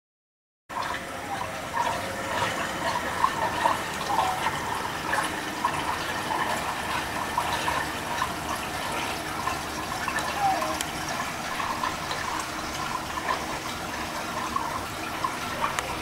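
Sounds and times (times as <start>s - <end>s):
pool water lapping and gurgling: 0.7s - 16.0s.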